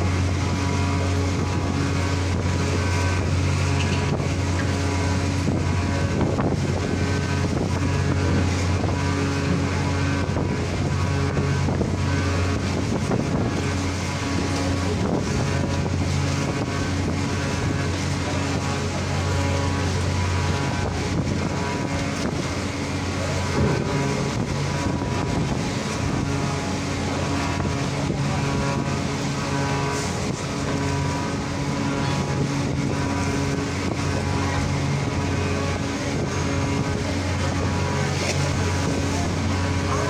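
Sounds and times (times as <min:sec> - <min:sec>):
ferry engines droning: 0:00.0 - 0:40.0
wind noise on microphone: 0:00.0 - 0:40.0.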